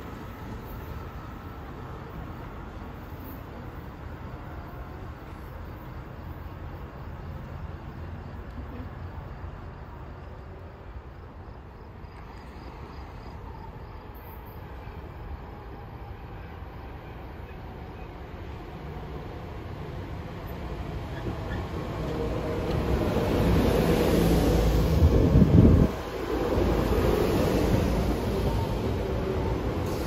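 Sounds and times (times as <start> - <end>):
train rumble and hiss: 0.0 - 30.0.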